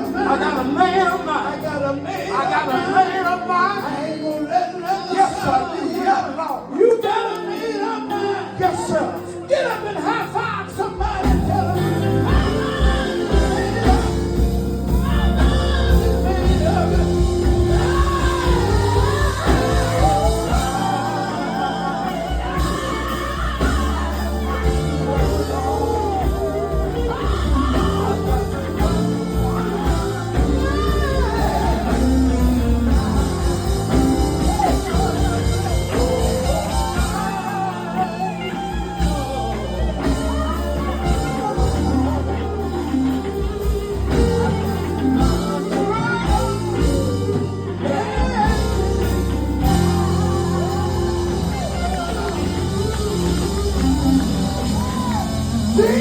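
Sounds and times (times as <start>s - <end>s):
band with heavy bass and drums: 0.0s - 56.0s
gospel voices singing: 0.0s - 56.0s.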